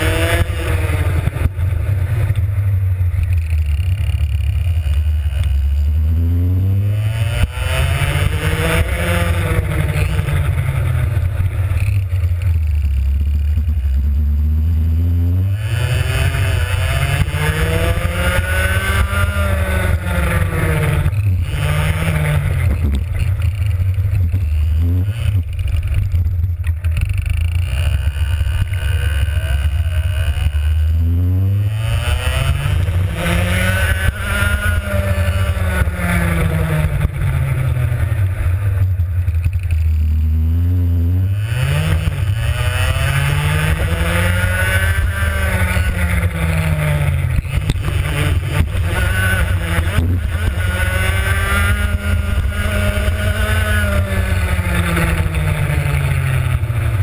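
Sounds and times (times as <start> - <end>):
two-stroke kart engine revving: 0.0 - 57.0.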